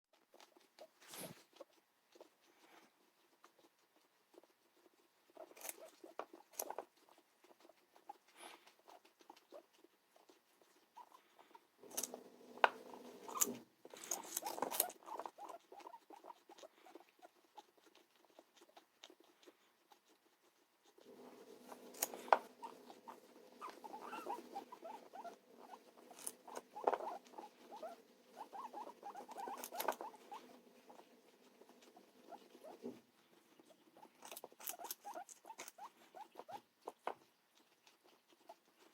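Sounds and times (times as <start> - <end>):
pets crunching carrots: 0.1 - 38.9.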